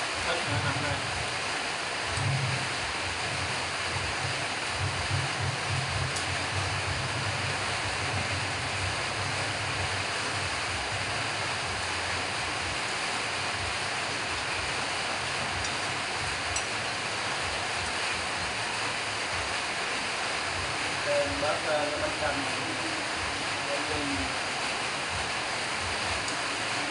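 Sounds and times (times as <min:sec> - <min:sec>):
steady rushing noise: 0:00.0 - 0:26.9.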